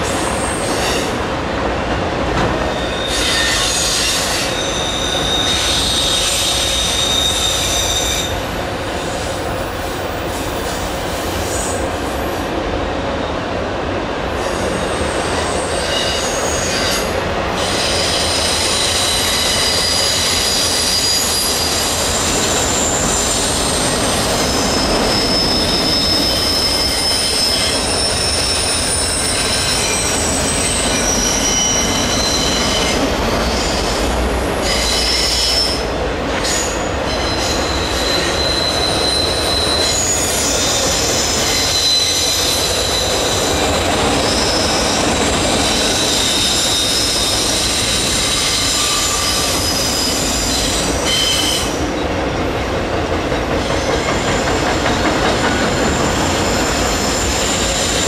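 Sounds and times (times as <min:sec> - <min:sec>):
train wheels squealing: 0:00.0 - 0:01.2, 0:02.6 - 0:12.5, 0:14.4 - 0:52.1, 0:53.3 - 0:58.0.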